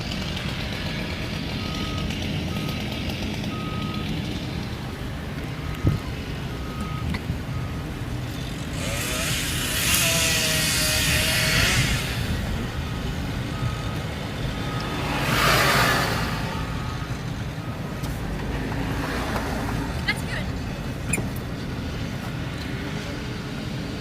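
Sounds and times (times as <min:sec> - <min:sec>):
car tyres and engine rumble: 0:00.0 - 0:24.0.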